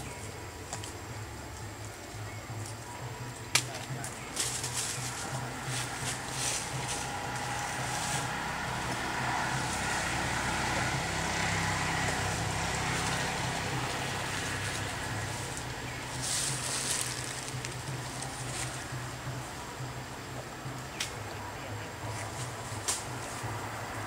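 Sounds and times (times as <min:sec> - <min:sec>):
low steady hum: 0:00.0 - 0:24.0
vehicle engine and road noise: 0:00.0 - 0:24.0.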